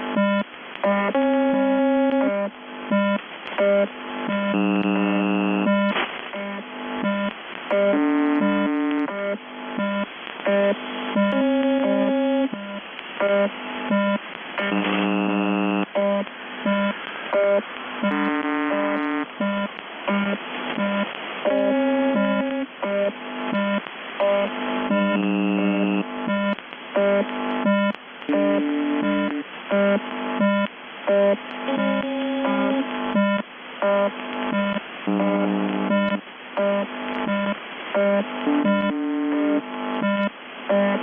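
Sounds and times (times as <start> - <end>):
radio hiss: 7.3 - 41.0.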